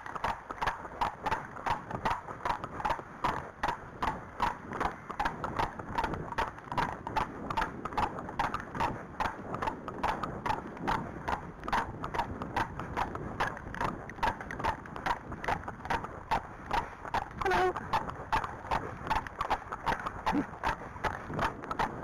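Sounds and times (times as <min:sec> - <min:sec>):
hooves clip-clopping on tarmac: 0:00.0 - 0:22.0.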